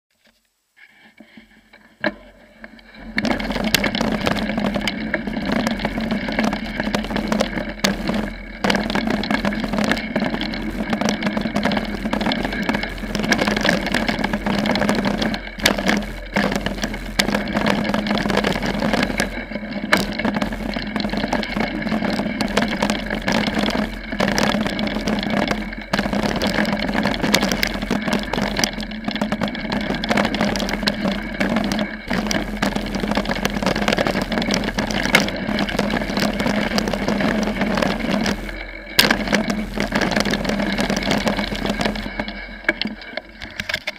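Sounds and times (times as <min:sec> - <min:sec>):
bike tyres rolling over dirt: 0:01.2 - 0:43.9.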